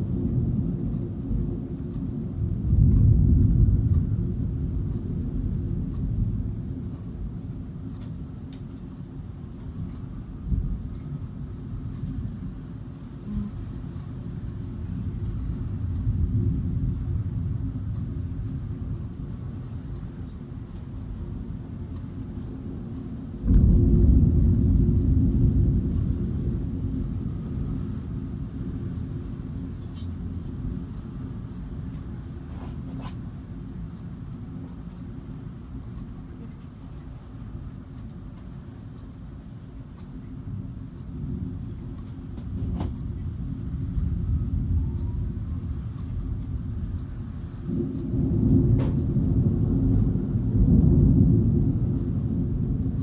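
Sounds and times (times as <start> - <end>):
thunder rumbling: 0.0 - 53.0.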